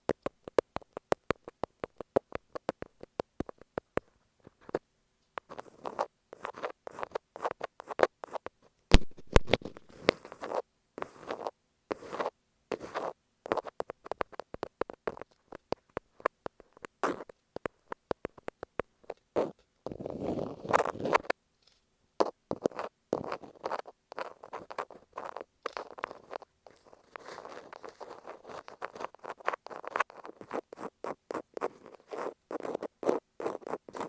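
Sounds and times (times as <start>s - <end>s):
thumbtack scratching on tape: 0.0s - 21.4s, 22.2s - 34.0s.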